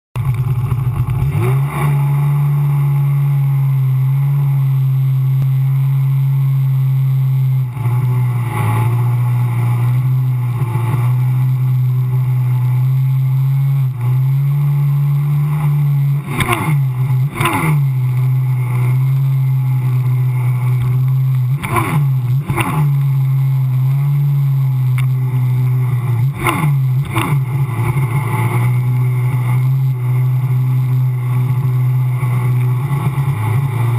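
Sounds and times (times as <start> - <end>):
personal watercraft engine drone: 0.2 - 33.9.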